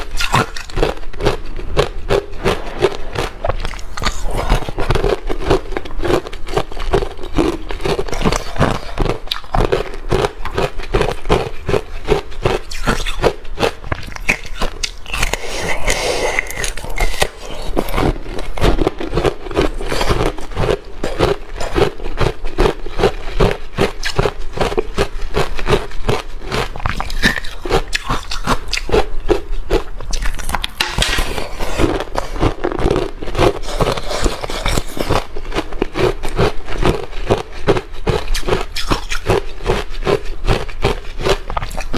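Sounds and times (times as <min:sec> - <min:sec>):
person chewing ice crunches: 0:00.0 - 0:41.9.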